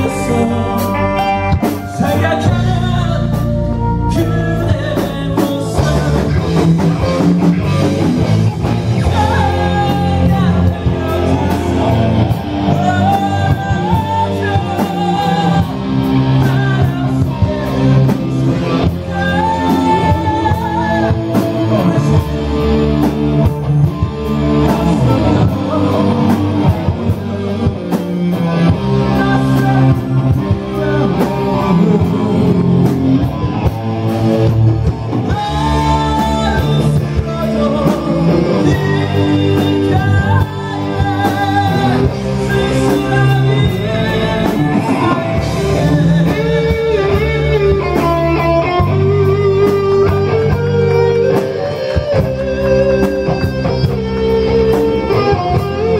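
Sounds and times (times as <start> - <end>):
man singing into a microphone: 0.0 - 8.0, 8.9 - 33.8, 34.4 - 55.9
bass guitar: 0.0 - 55.9
drum kit: 0.0 - 55.9
electric guitar: 0.0 - 55.9.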